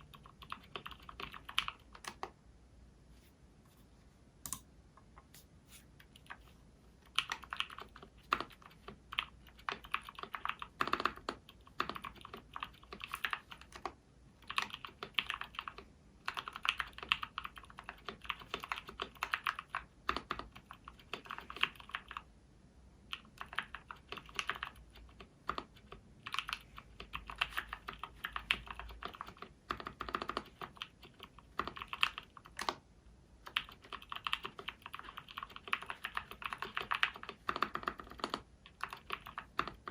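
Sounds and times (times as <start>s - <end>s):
mechanical keyboard typing: 0.0s - 2.3s, 7.1s - 22.3s, 23.1s - 32.8s, 33.4s - 39.9s.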